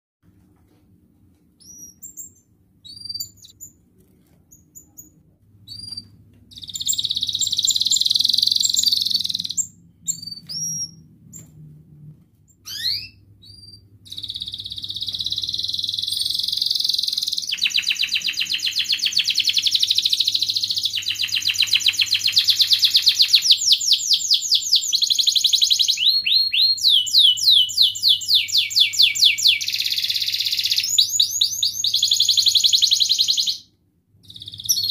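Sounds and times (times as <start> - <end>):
canary singing trills: 1.6 - 3.8, 4.5 - 11.5, 12.5 - 33.6, 34.2 - 34.9.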